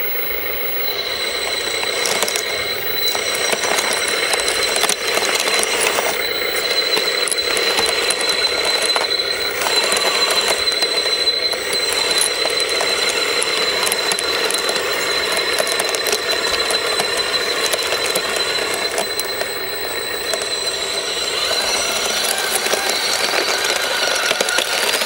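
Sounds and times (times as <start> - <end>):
electric motor whine: 0.0 - 25.0
gears clicking and rattling: 0.0 - 25.0.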